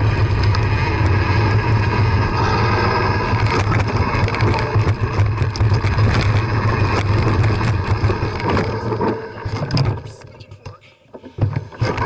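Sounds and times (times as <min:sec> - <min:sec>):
bike rattling over stones: 0:00.0 - 0:10.2
wind and rolling tyres rumble: 0:00.0 - 0:10.5, 0:11.3 - 0:12.0.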